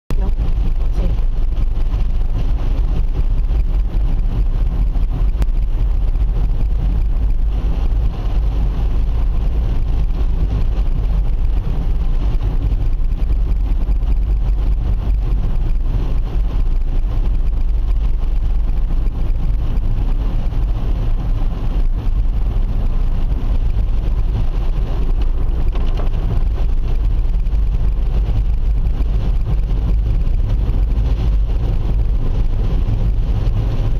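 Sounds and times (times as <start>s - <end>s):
car engine and road noise: 0.1s - 33.9s.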